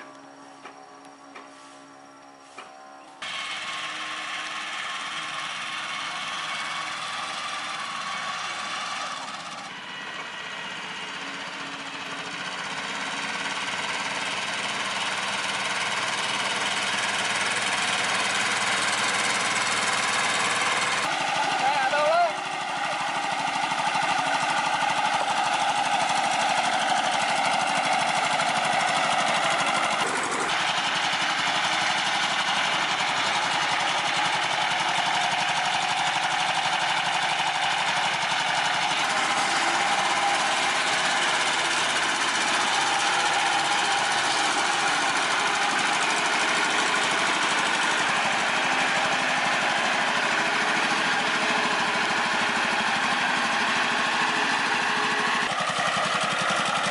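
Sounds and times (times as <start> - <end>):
motor running steadily: 0.0 - 56.9.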